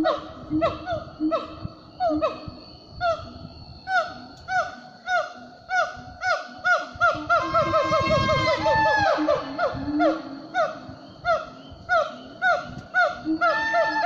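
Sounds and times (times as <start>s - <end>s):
lower alternating animal notes: 0.0s - 14.0s.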